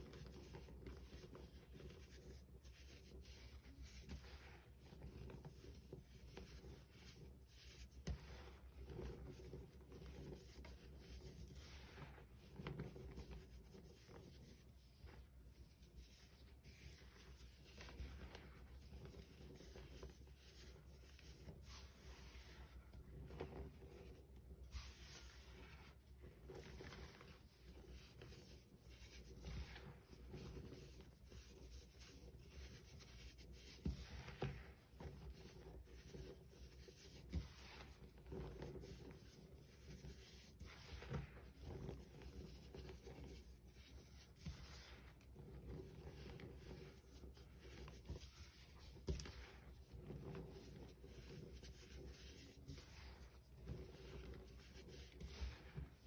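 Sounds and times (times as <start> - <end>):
hands scrunching powder: 0.0 - 56.0.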